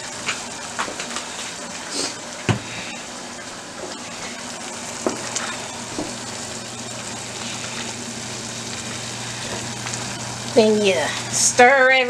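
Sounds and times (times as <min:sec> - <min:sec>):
chili crackling in a pot: 0:00.0 - 0:12.0.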